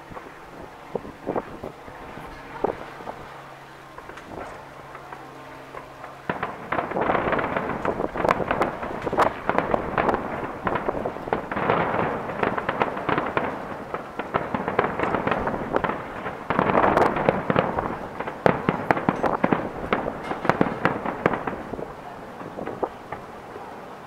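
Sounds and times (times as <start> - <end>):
fireworks crackling and banging: 0.0 - 24.0.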